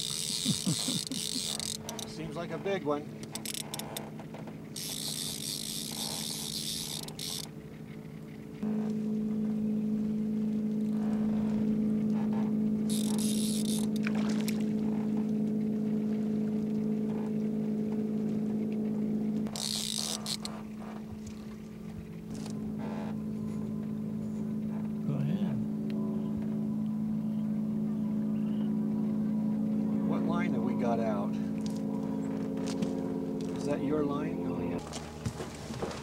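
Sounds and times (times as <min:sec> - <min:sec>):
boat motor humming: 0:00.0 - 0:36.0.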